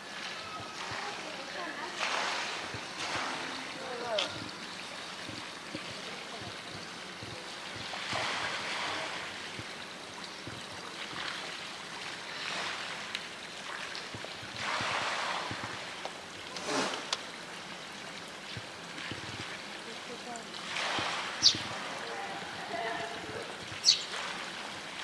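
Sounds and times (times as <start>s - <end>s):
running water: 0.0s - 25.0s.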